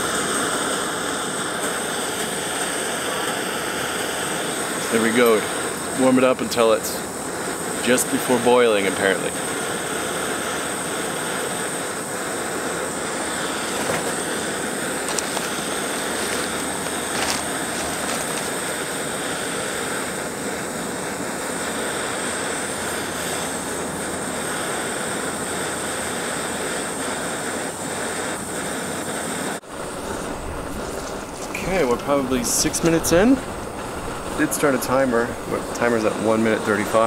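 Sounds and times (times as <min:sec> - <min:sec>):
gas stove hissing: 0:00.0 - 0:37.0.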